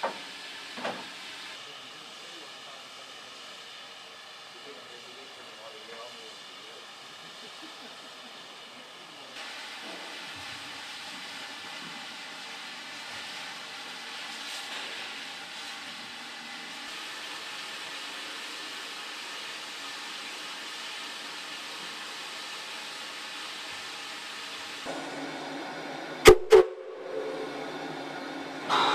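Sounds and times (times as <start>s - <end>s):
steam locomotive hissing steam: 0.0s - 28.9s.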